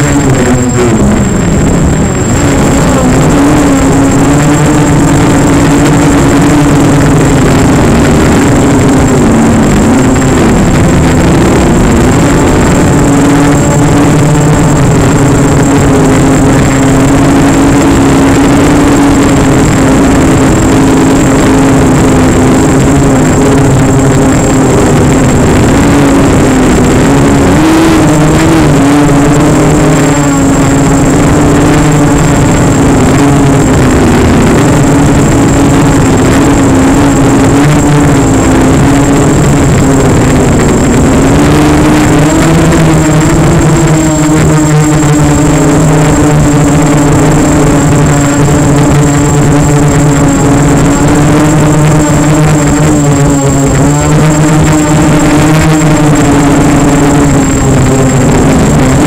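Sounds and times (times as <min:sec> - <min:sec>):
model aircraft motor and propeller: 0:00.0 - 0:59.0.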